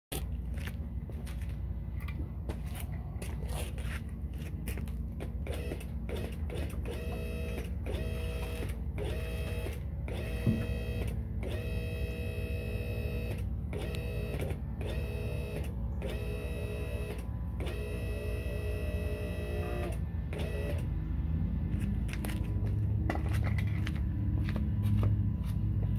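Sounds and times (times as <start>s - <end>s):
pump whine: 1.1s - 25.9s.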